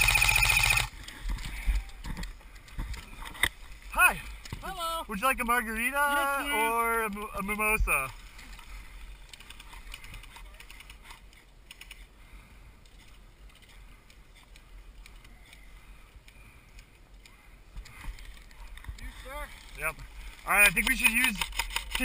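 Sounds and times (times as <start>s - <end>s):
faint clicks and rustles: 0.9s - 4.7s, 7.9s - 22.0s.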